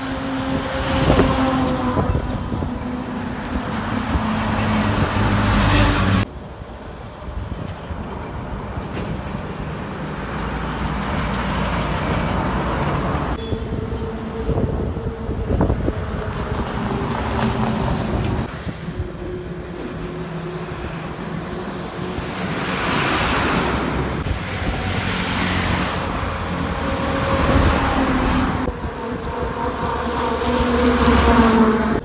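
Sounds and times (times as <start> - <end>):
trucks passing on highway: 0.0 - 32.0.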